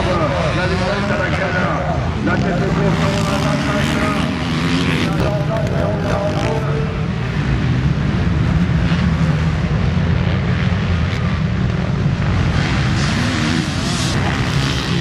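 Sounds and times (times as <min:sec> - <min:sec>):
motocross motorcycle engines: 0:00.0 - 0:15.0.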